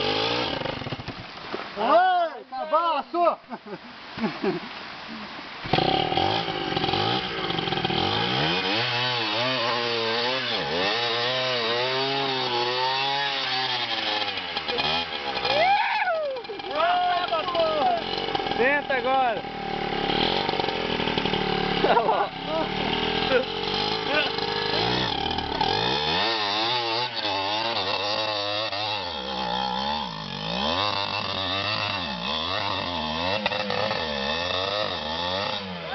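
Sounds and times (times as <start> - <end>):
motorcycle engine revving: 0.0 - 1.4, 5.6 - 35.9.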